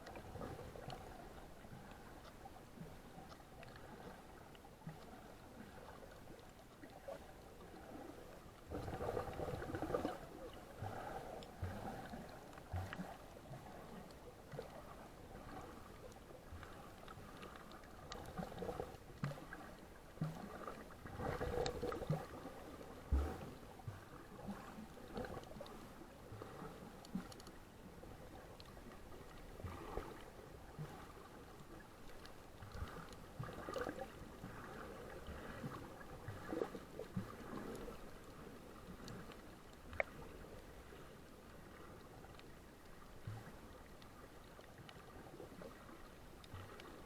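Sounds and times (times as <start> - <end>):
water sloshing and gurgling: 0.0 - 47.0.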